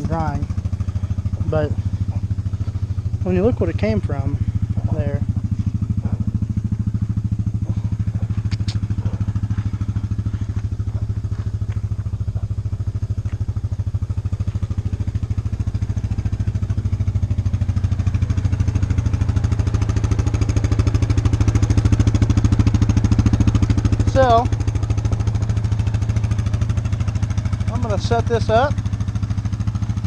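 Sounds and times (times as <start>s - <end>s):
engine running with rapid pulsing: 0.0s - 30.0s.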